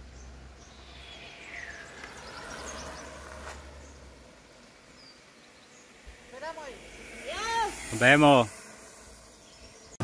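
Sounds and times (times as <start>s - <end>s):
birds calling: 0.0s - 10.0s
insects: 0.0s - 10.0s.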